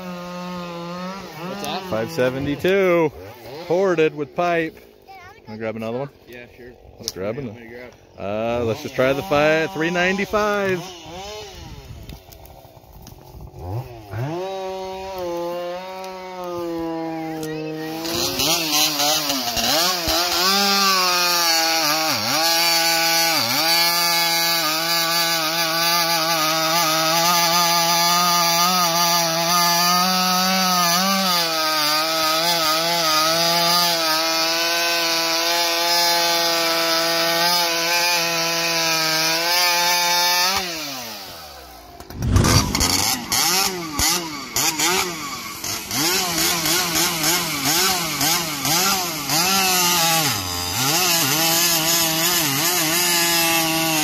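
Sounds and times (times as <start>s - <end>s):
chainsaw revving in sharp blips: 0.0s - 5.9s, 8.2s - 54.0s
chainsaw cutting log: 0.0s - 7.6s, 8.2s - 54.0s.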